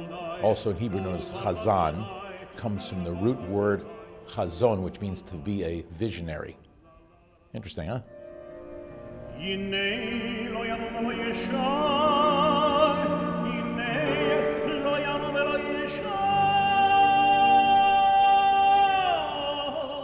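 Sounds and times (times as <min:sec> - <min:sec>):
man singing operatic liturgical melody: 0:00.0 - 0:08.1, 0:09.2 - 0:20.0.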